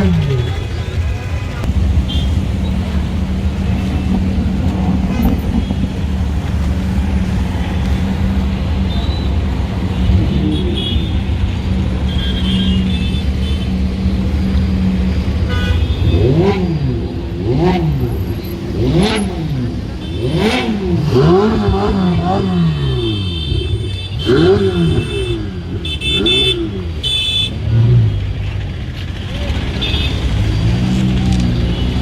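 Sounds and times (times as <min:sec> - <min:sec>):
car engines idling: 0:00.0 - 0:32.0.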